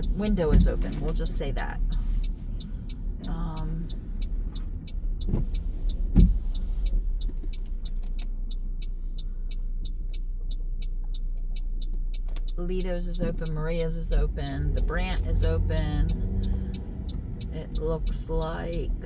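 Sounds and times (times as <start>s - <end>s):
regular ticking: 0.0s - 19.0s
road rumble inside car: 0.0s - 19.0s.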